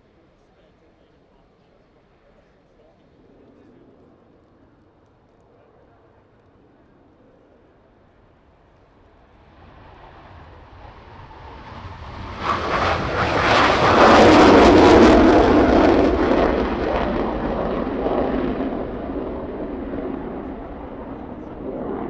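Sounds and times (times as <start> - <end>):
jet taking off in afterburner: 1.8 - 22.0.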